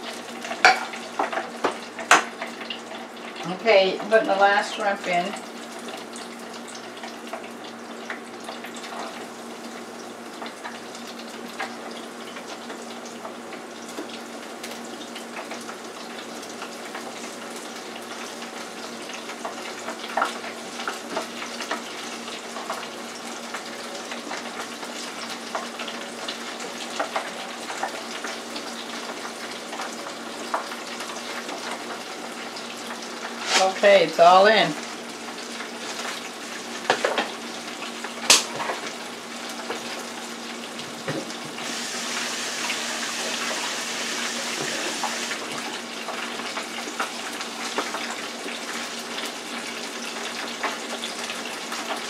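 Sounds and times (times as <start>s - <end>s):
oil crackling and popping: 0.0s - 34.0s, 34.7s - 52.0s
oil sizzling in deep fryer: 0.0s - 52.0s.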